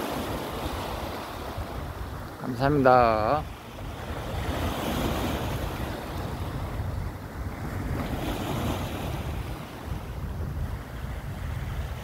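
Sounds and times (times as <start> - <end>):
small waves washing ashore: 0.0 - 12.0
wind buffeting microphone: 0.0 - 12.0.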